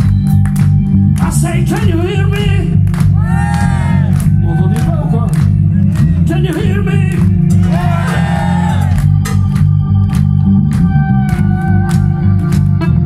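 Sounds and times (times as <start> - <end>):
drums steady beat: 0.0 - 12.9
bass: 0.0 - 13.0
organ: 0.0 - 13.0.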